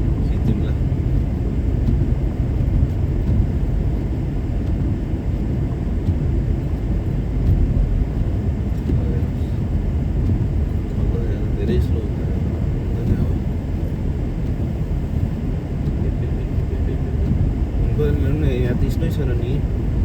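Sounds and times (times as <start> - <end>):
car cabin road and engine rumble: 0.0 - 20.0.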